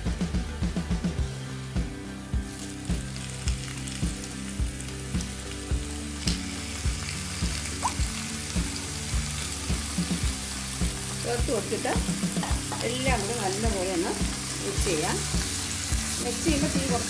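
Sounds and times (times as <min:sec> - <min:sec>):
background music with steady beat: 0:00.0 - 0:17.0
chicken sizzling in frying pan: 0:01.0 - 0:17.0.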